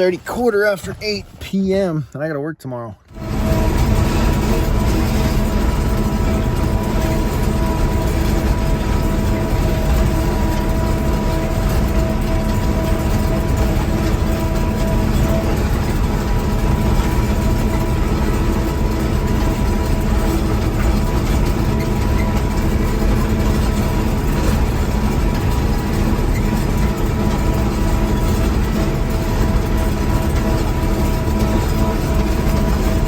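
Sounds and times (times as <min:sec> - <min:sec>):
vehicle engine and road rumble: 0:00.0 - 0:33.0.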